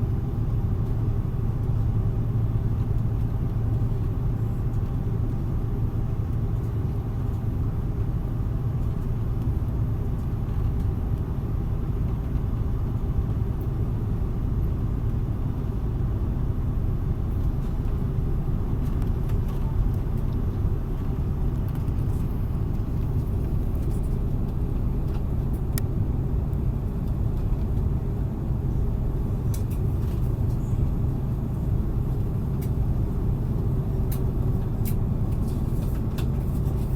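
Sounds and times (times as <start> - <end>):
airliner cabin rumble: 0.0 - 36.9.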